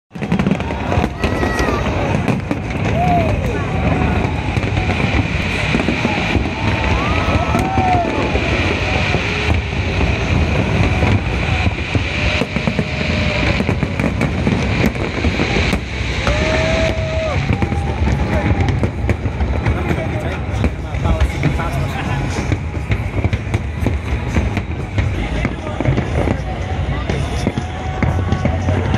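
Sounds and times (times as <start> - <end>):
crowd shouting and whooping: 0.1 - 20.5, 22.0 - 28.9
crowd din: 0.1 - 28.9
fireworks bangs and crackles: 0.1 - 28.9.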